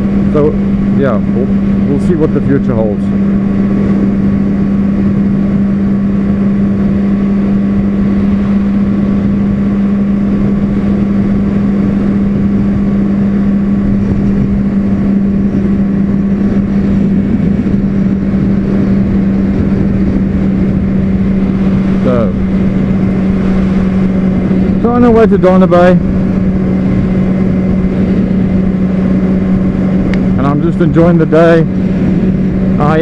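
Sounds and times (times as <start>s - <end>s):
motorcycle engine cruising: 0.0s - 33.0s
wind rush over microphone: 0.0s - 33.0s.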